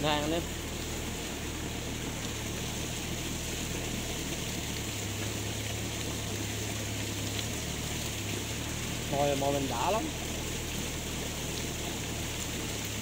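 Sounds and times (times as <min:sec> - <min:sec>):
small engine humming: 0:00.0 - 0:13.0.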